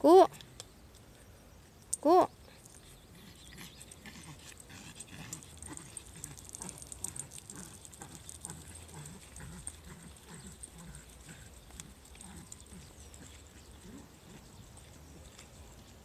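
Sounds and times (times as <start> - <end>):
small dog panting: 2.4 - 16.0.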